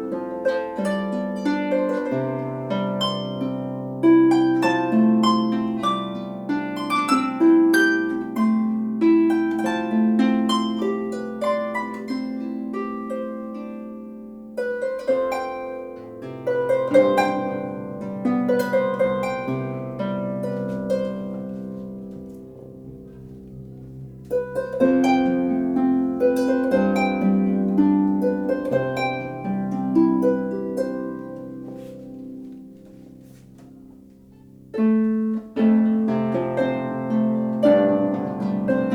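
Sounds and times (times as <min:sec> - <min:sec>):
harp played solo: 0:00.0 - 0:38.9.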